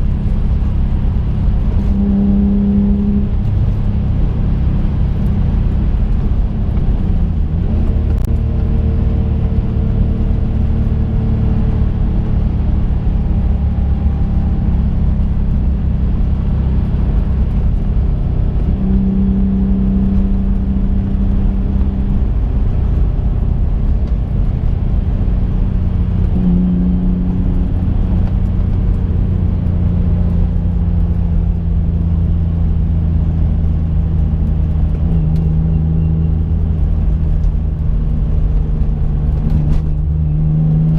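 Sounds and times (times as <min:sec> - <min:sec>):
car engine drone: 0:00.0 - 0:40.9
road rumble: 0:00.0 - 0:40.9.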